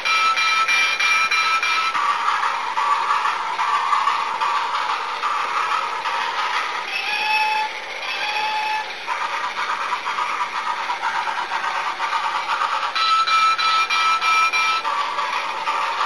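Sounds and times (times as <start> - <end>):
toy roller coaster rattling: 0.0 - 16.0.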